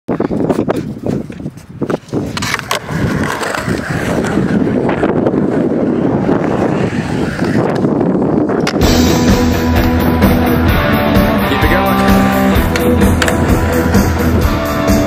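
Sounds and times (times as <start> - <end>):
skateboard wheels rolling on concrete: 0.1 - 15.0.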